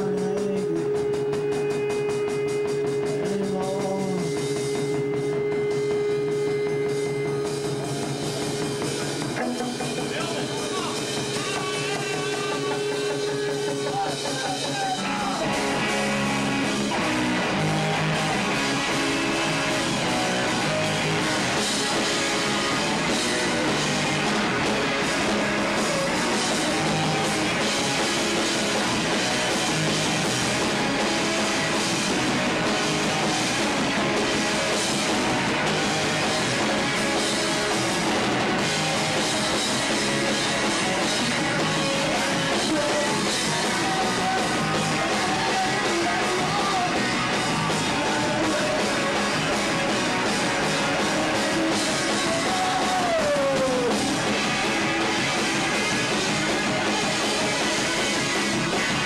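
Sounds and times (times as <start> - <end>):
drum kit playing: 0.0 - 59.0
electric guitars: 0.0 - 59.0.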